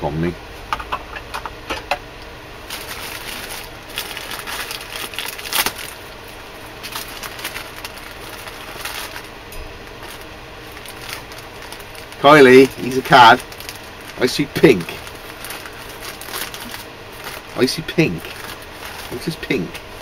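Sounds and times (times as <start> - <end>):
plastic wrapping crinkling: 2.6 - 20.0.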